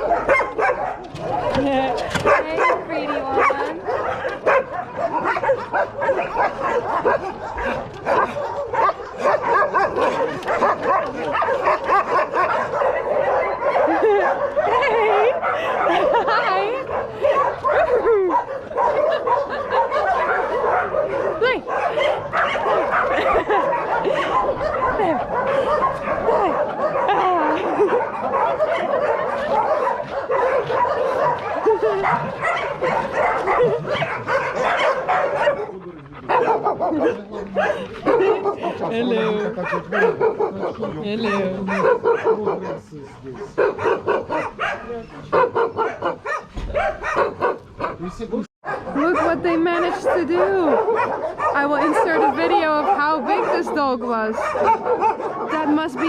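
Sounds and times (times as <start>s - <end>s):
dogs barking and whining: 0.0s - 56.0s.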